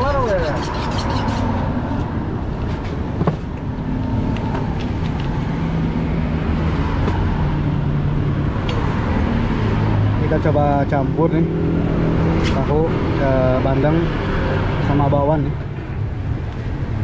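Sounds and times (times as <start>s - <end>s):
passing road traffic: 0.0s - 17.0s.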